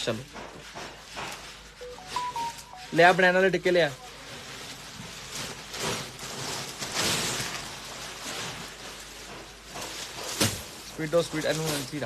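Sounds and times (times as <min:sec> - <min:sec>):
shiny fabric rustling: 0:01.0 - 0:12.0.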